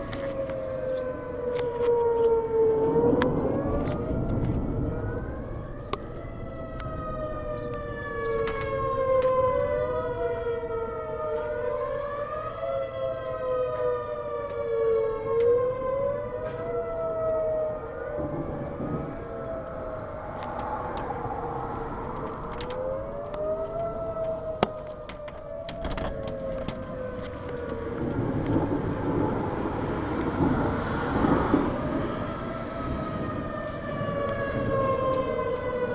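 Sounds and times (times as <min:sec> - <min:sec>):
warning siren sweeping tones: 0:00.0 - 0:35.9
wind rumble on microphone: 0:00.0 - 0:35.9.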